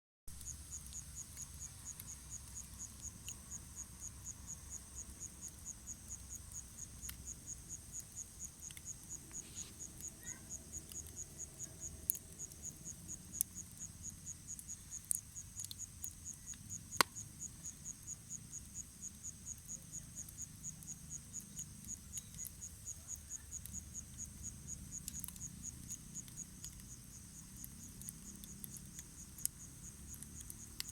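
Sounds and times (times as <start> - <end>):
campfire crackling and popping: 0.3 - 30.9.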